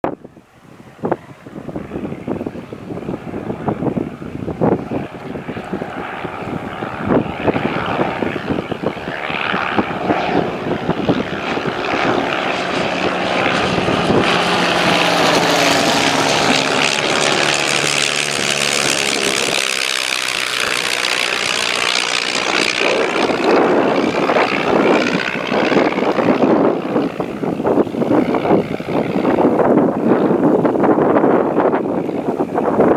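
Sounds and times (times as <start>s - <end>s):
propeller airplane flying past: 0.0s - 32.9s
wind buffeting microphone: 0.0s - 32.9s.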